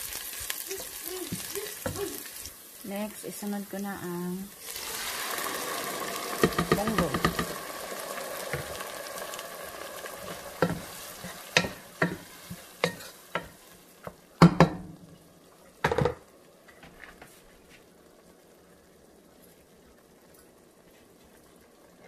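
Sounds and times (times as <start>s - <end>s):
beans sizzling in a pot: 0.0s - 22.0s.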